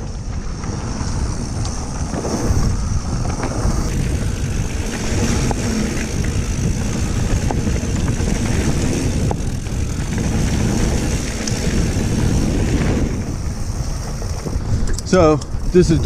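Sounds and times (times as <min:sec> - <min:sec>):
faint bike clicks: 0:00.0 - 0:12.5, 0:13.5 - 0:16.0
bike tyres rumbling over dirt: 0:00.0 - 0:16.0
wind buffeting microphone: 0:00.0 - 0:16.0.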